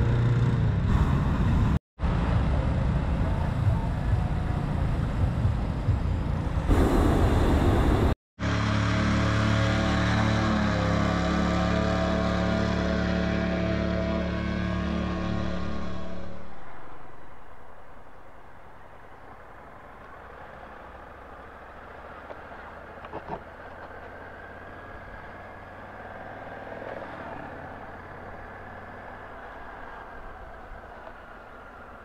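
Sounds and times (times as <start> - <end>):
street noise: 0.0 - 32.0.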